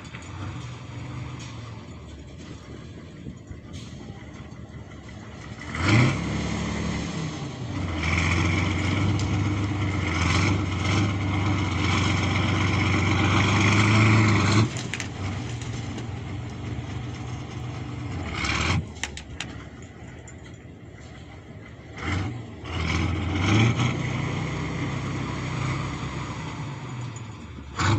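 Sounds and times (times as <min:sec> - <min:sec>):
tractor diesel engine revving: 0:00.0 - 0:27.9.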